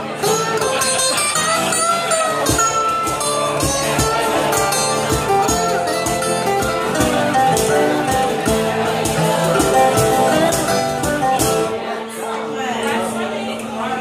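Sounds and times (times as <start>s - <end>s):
acoustic guitar strummed: 0.0s - 12.4s.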